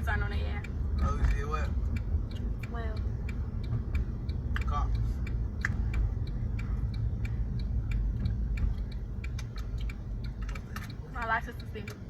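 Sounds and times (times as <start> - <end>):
car engine rumble: 0.0 - 12.0
car indicator relay ticking: 0.0 - 12.0
road noise: 0.0 - 12.0.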